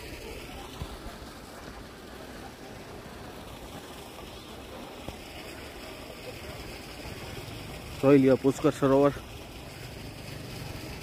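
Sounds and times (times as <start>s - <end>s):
faint distant voices: 0.0s - 11.0s
low outdoor background noise: 0.0s - 11.0s.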